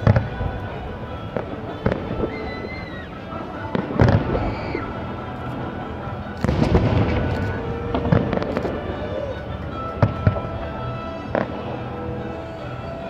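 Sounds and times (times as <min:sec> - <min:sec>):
distant bangs: 0:00.0 - 0:12.2
fireworks bursting booms: 0:00.0 - 0:12.6
fireworks crackling: 0:00.0 - 0:13.0.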